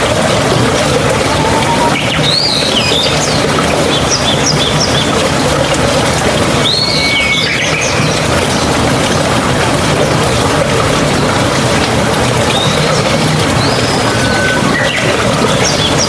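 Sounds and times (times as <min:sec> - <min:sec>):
rushing flowing water: 0:00.0 - 0:16.0.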